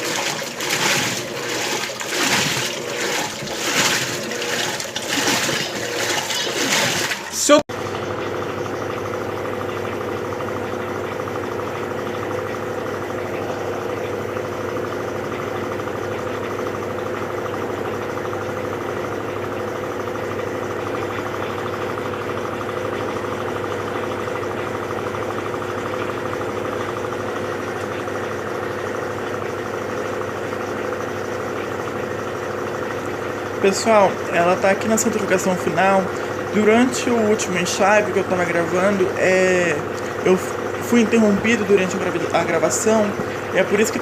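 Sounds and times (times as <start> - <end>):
washing machine spinning: 0.0 - 44.0.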